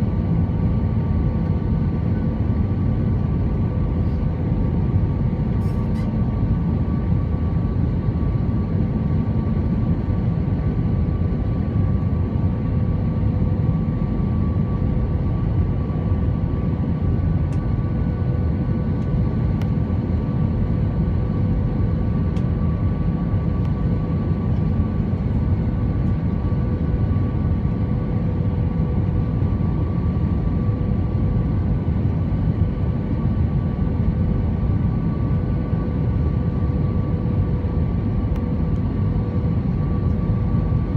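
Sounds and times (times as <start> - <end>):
aircraft cabin engine rumble: 0.0 - 40.9.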